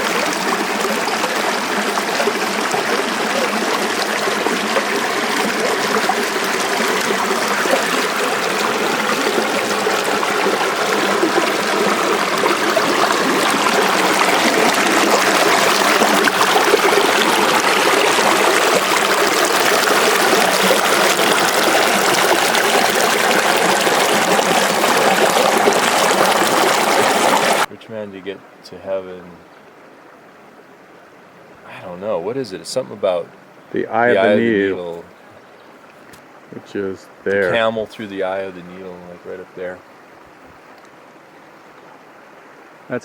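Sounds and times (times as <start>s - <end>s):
creek water running over rocks: 0.0s - 43.0s.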